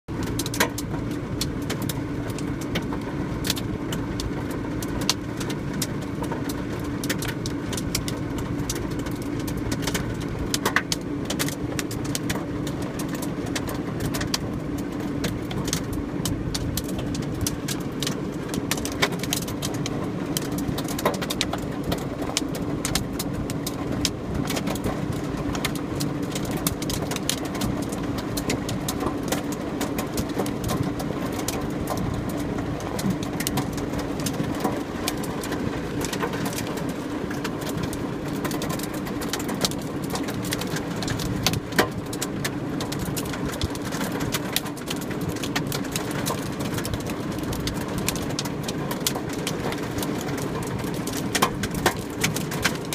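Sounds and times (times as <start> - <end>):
hail pelting a car: 0.1 - 52.9.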